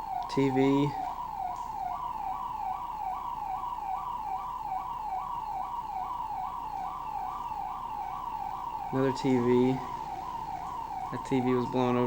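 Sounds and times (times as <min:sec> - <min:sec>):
electronic alarm siren wailing: 0:00.0 - 0:12.0.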